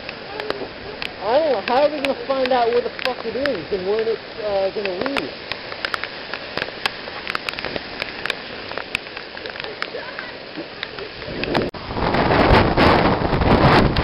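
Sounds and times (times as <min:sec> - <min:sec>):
heavy rain falling: 0:00.0 - 0:14.0
raindrops tapping close by: 0:00.0 - 0:14.0.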